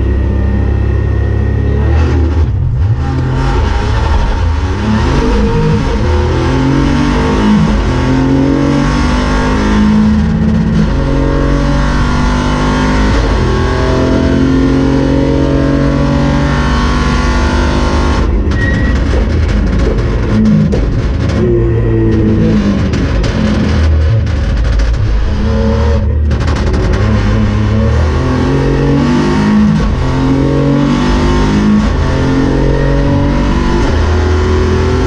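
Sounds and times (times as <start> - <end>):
car engine revving through upshifts: 0.0 - 18.5, 25.4 - 35.0
engine crackling on the overrun: 0.0 - 35.0.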